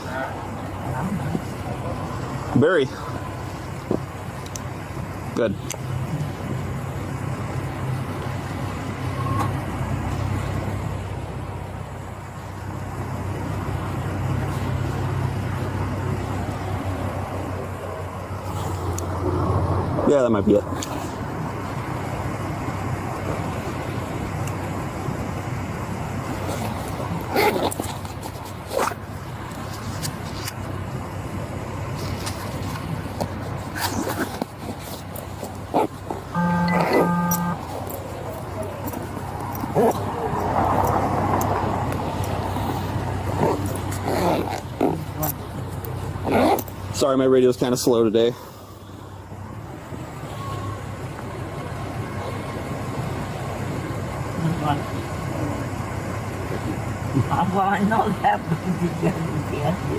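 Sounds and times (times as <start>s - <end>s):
road traffic noise: 0.0s - 59.9s
vehicle engine humming: 0.0s - 59.9s.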